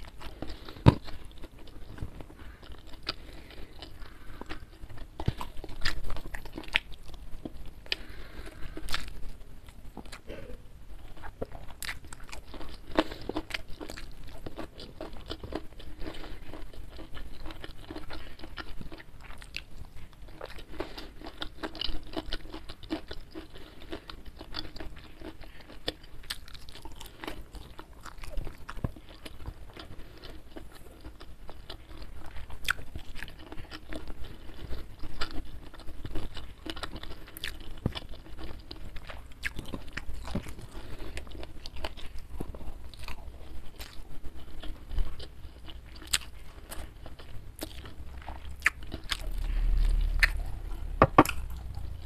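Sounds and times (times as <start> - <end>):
chewing and crunching food: 0.0 - 52.0.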